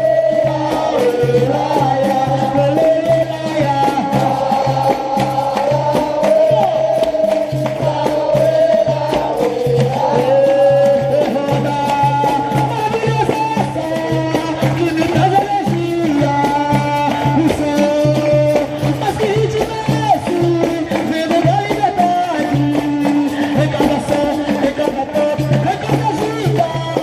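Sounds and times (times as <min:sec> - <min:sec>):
hand drum beat: 0:00.0 - 0:27.0
person singing: 0:00.0 - 0:27.0.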